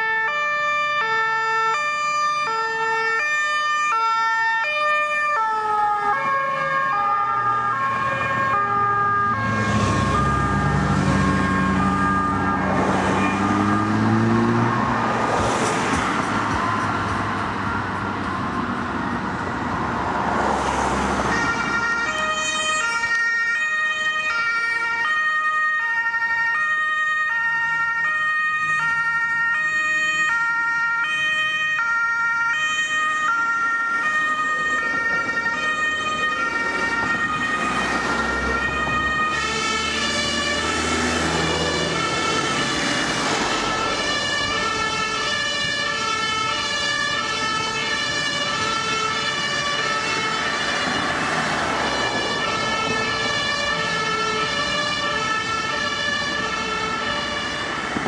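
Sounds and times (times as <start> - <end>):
two-tone ambulance siren: 0.0 - 58.0
passing traffic rumble: 0.3 - 58.0.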